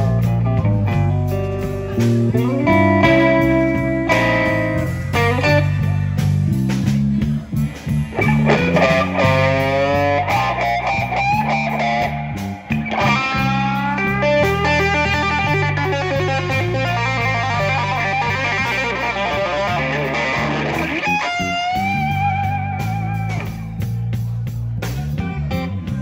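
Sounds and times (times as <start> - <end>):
blues band playing: 0.0 - 26.0
electric guitar lead lines: 0.0 - 26.0.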